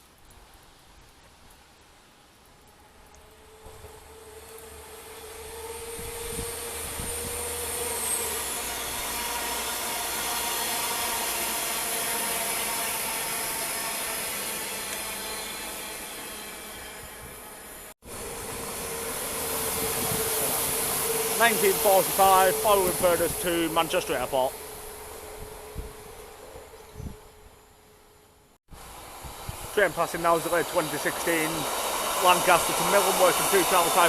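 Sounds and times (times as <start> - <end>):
train passing: 2.6 - 34.0.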